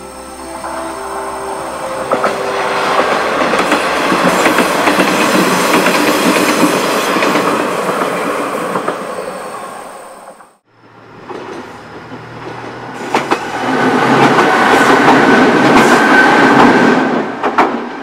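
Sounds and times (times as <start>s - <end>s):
diesel railcar passing: 0.0s - 18.0s.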